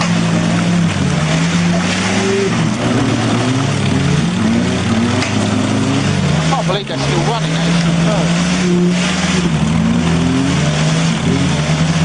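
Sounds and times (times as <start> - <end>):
off-road engine revving under load: 0.0 - 12.0.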